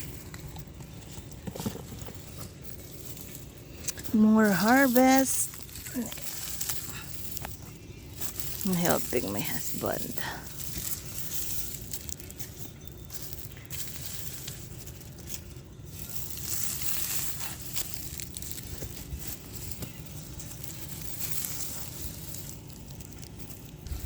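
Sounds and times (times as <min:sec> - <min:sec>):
onion plants rustling and crunching: 0:00.0 - 0:24.0
small crackles: 0:00.0 - 0:24.0.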